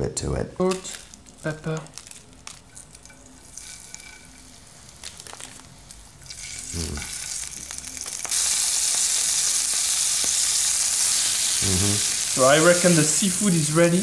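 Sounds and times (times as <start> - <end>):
seafood sizzling in frying pan: 0.9 - 14.0.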